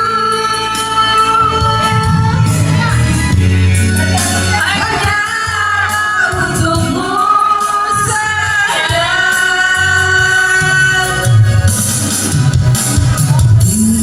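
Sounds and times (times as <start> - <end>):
person singing long notes: 0.0 - 11.8
low bass beat: 1.2 - 7.2, 8.0 - 14.0.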